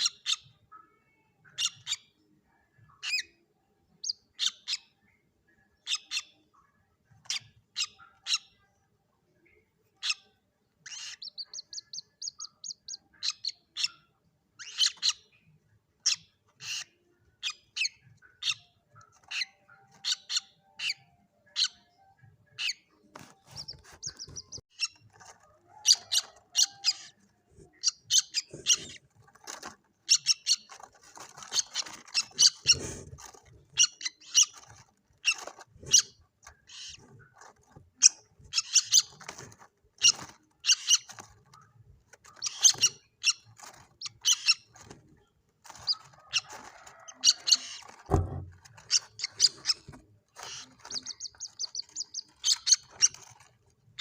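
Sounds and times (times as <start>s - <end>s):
chicks peeping: 0.0s - 8.6s, 9.8s - 54.0s.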